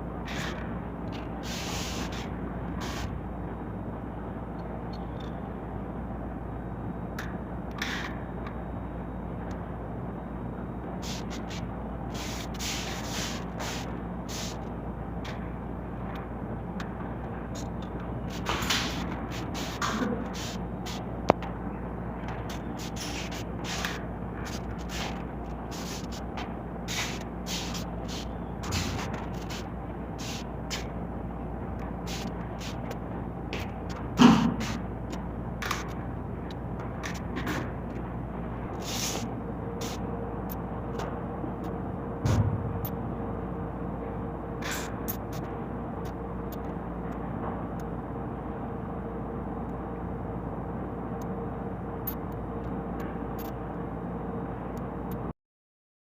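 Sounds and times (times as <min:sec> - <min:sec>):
low background hum: 0:00.0 - 0:55.3.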